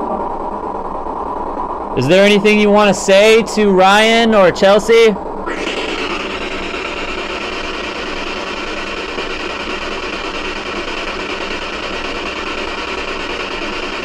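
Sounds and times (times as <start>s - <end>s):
radio static hiss: 2.0s - 14.0s.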